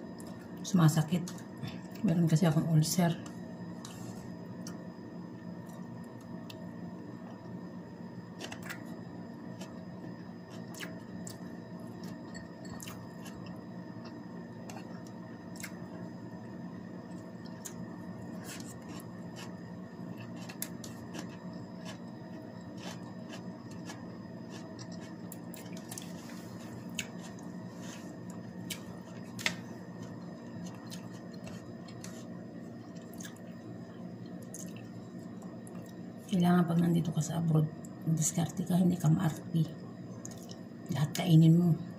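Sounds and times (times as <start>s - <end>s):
low room hum: 0.0s - 41.9s.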